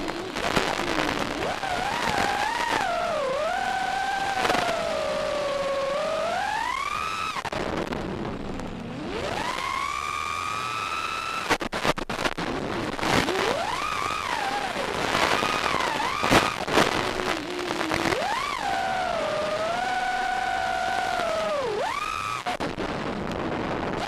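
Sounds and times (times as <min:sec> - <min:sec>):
sliding pitched tone: 0:00.0 - 0:11.5, 0:12.8 - 0:22.7
sharp crackles: 0:00.0 - 0:24.0.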